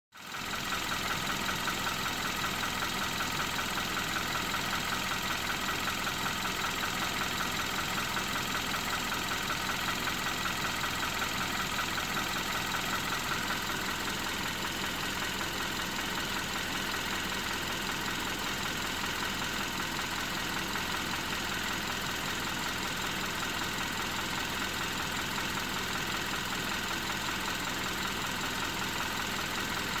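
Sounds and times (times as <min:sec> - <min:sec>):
fast steady engine knocking: 0:00.2 - 0:30.0
car engine idling: 0:00.3 - 0:30.0.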